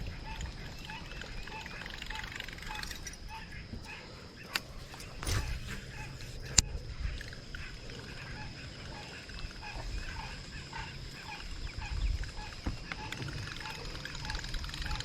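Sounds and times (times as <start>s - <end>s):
repeated animal calls: 0.0s - 15.0s.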